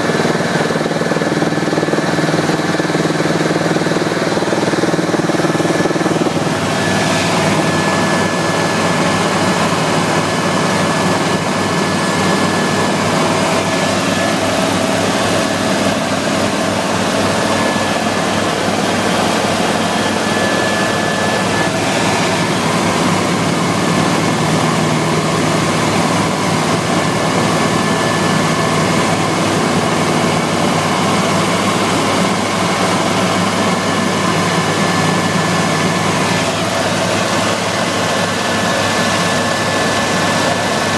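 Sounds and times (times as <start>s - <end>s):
helicopter engine and rotor: 0.0s - 40.9s
thin steady whine: 0.0s - 40.9s.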